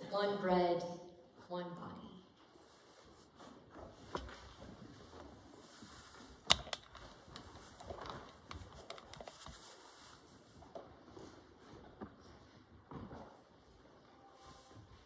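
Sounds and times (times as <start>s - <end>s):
people rustling and shuffling: 2.3s - 6.4s, 7.0s - 15.0s.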